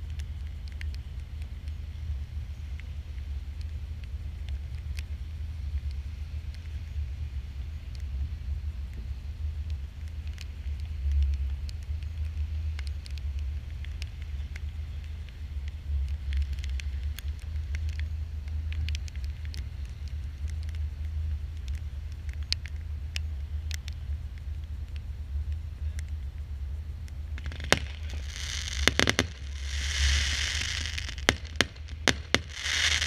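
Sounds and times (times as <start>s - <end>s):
faint crackles and pops: 0.0s - 33.0s.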